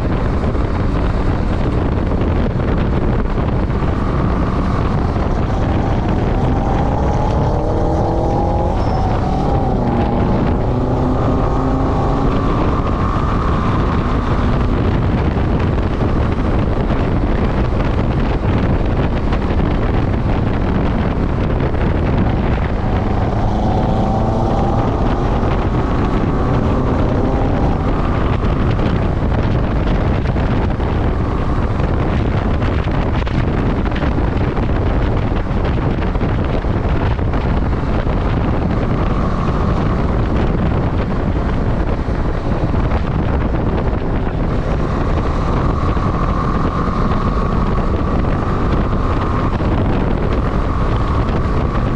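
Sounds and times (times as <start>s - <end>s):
motorcycle engine accelerating: 0.0s - 51.9s
wind noise on microphone: 0.0s - 51.9s.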